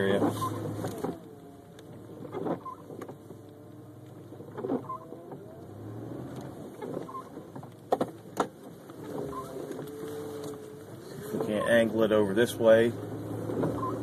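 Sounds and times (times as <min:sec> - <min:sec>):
wiper motor whining: 0:00.0 - 0:14.0.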